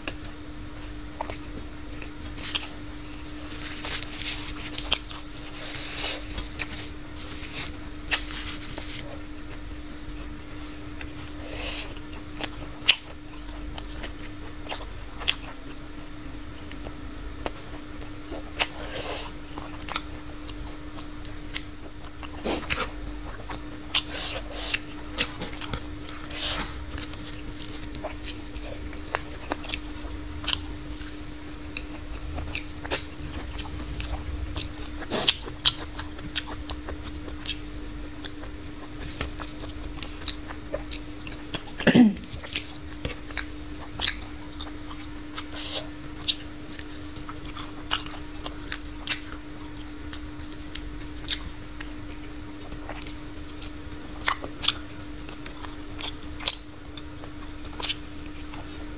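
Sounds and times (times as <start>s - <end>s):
chewing and biting: 0.0s - 9.6s, 11.0s - 15.8s, 16.6s - 58.9s
steady hum: 0.0s - 58.9s.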